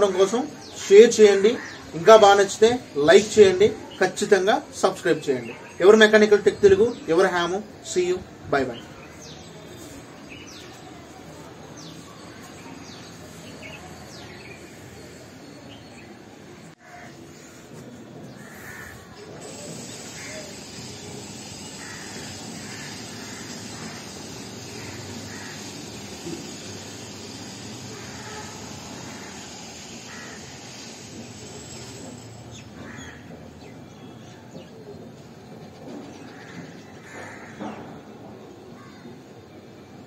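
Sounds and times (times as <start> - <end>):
steady background hiss: 0.0 - 34.2.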